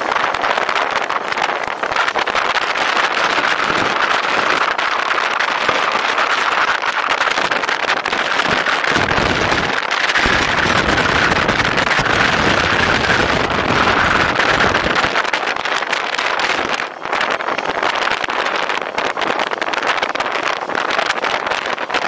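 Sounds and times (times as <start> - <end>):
wind and road noise: 0.0 - 22.0
wind buffeting on microphone: 0.0 - 22.0.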